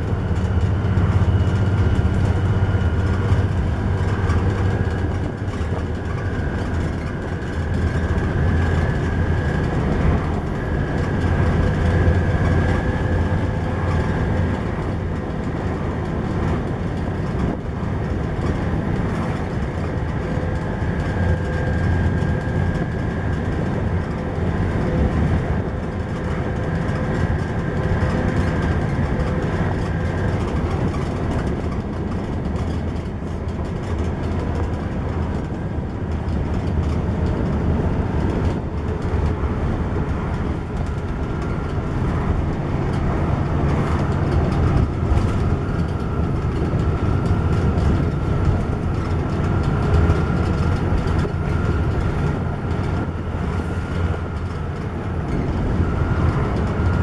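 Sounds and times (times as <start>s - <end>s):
bus engine hum: 0.0s - 57.0s
road and tyre noise: 0.0s - 57.0s.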